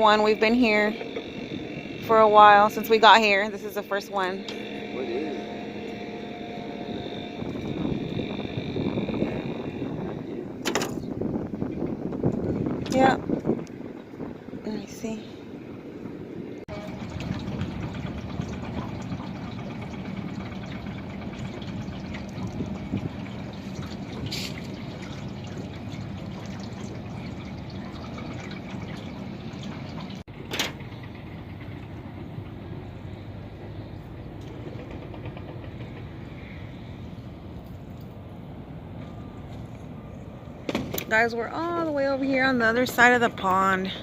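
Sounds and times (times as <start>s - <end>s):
water sloshing against boat: 0.0s - 14.4s, 16.5s - 44.0s
steady low hum: 0.0s - 44.0s.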